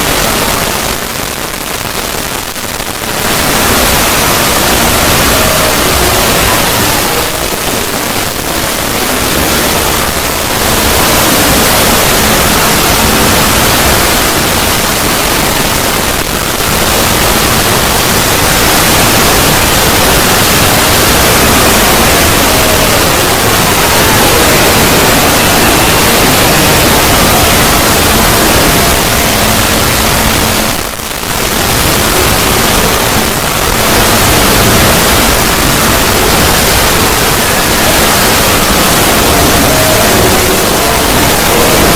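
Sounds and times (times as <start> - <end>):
faint tones: 0.0 - 41.9
steady rushing static noise: 0.0 - 41.9.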